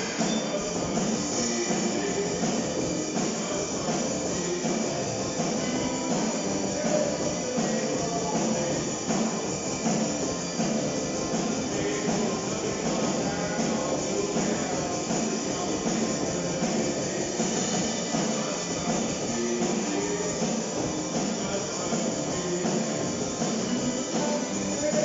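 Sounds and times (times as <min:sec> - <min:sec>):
drum kit with cymbals: 0:00.0 - 0:25.0
electric guitars: 0:00.0 - 0:25.0.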